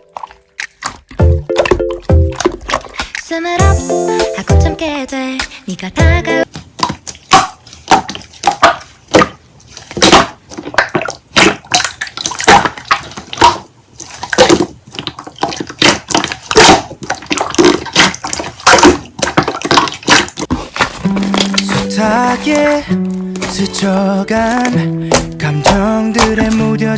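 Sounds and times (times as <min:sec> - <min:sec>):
slime squelching by hand: 0:00.0 - 0:03.6, 0:06.4 - 0:26.9.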